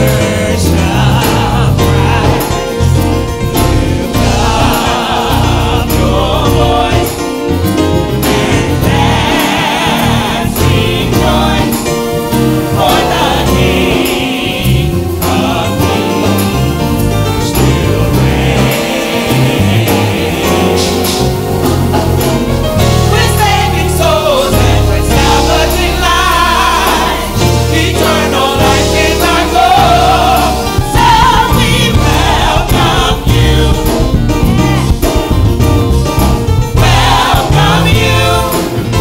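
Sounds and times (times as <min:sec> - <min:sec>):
group singing in harmony: 0:00.0 - 0:39.0
steady bass line: 0:00.0 - 0:39.0.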